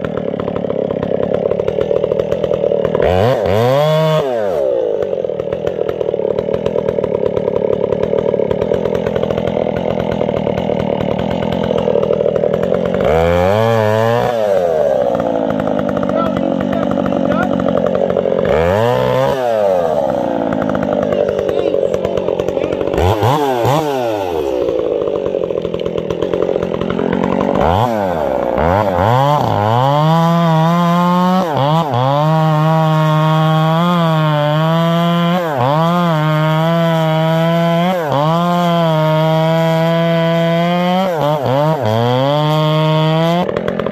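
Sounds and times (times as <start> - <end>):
chainsaw cutting into trunk: 0.0 - 43.9
chainsaw revving: 0.0 - 43.9.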